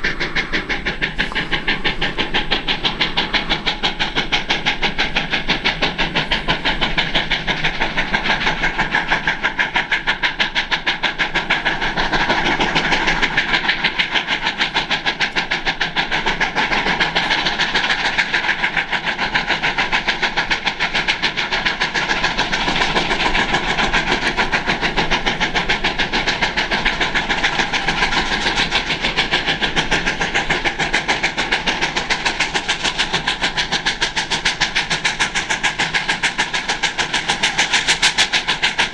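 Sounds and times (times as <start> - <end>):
steam locomotive exhaust chuffing: 0.0 - 38.9.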